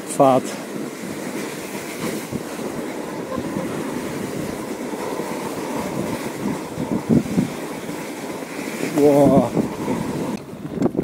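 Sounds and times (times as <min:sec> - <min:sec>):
bike tyres rumbling on snow: 0:00.0 - 0:11.0.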